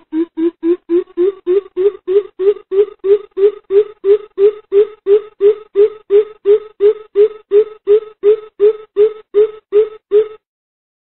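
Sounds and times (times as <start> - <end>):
bird hooting low notes: 0.0 - 10.4.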